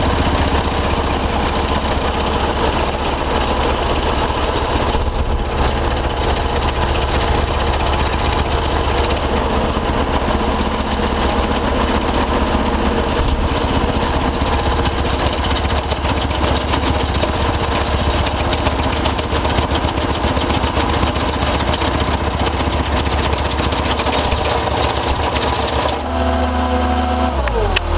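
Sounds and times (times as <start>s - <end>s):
diesel engine running: 0.0s - 27.9s
plate compactor hammering: 0.0s - 27.9s.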